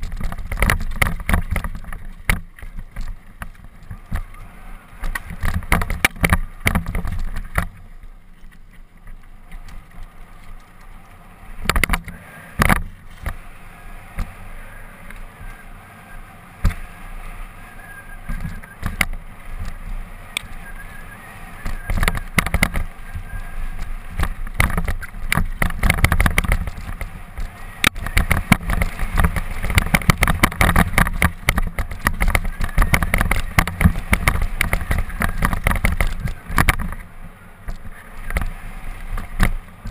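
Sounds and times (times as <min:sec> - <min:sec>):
bike knocking and rattling: 0:00.0 - 0:15.8, 0:16.6 - 0:39.9
bike tyres rumbling: 0:00.0 - 0:39.9.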